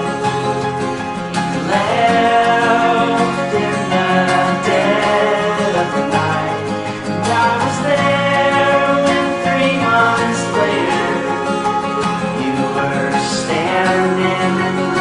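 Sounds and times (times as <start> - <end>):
man singing: 0.0 - 15.0
plucked acoustic guitar: 0.0 - 15.0.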